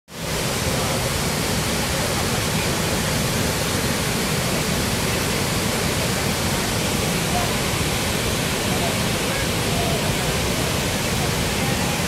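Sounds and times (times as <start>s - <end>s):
waterfall roaring: 0.1s - 12.0s.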